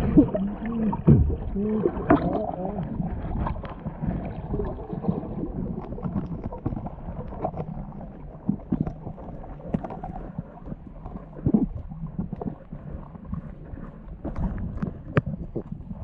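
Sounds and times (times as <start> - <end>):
low underwater rumble: 0.0 - 16.0.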